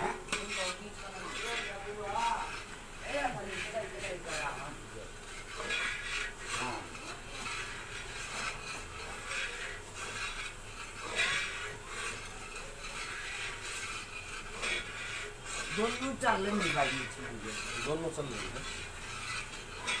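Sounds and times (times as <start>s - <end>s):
stirrer grinding in a pan: 0.0s - 20.0s.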